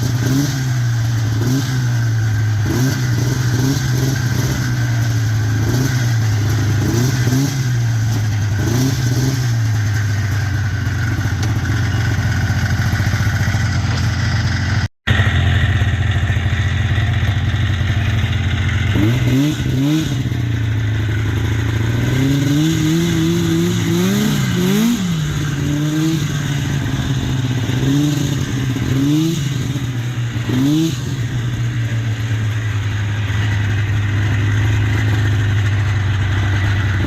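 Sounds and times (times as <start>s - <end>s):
snowmobile engine running: 0.0s - 37.0s.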